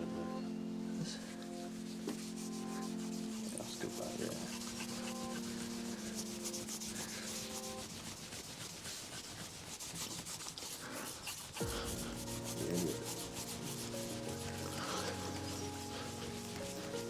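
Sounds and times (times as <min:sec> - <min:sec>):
cloth rubbing on metal: 0:00.9 - 0:17.0.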